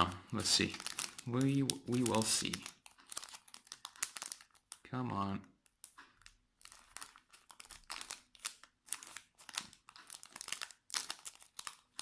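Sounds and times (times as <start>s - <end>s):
foil wrapper tearing and crinkling: 0.0s - 4.8s, 6.6s - 12.0s.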